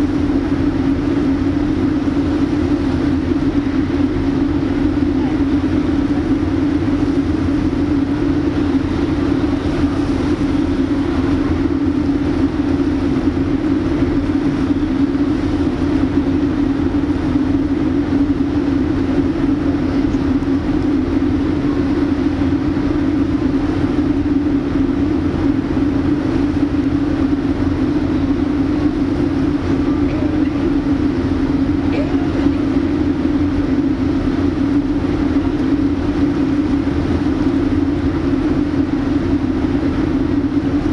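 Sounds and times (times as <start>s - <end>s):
machine drone: 0.0s - 40.9s.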